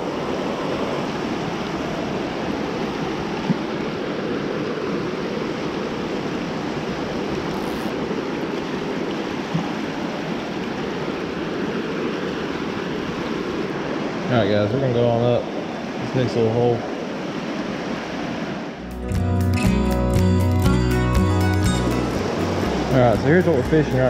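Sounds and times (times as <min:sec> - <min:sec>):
stream rushing over rocks: 0:00.0 - 0:18.9, 0:21.6 - 0:24.0.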